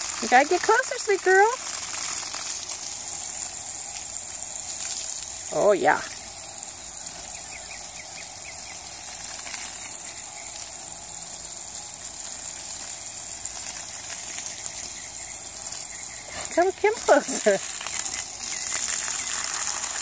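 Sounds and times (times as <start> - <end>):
garden hose spraying water: 0.0 - 20.0.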